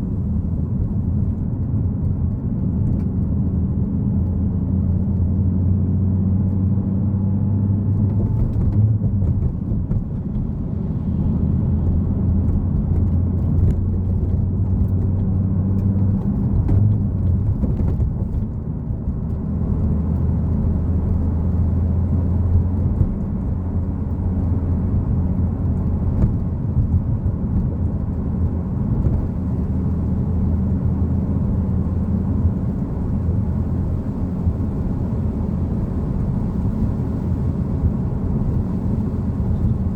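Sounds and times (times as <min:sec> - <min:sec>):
car engine droning: 0:00.0 - 0:39.9
road noise: 0:00.0 - 0:39.9.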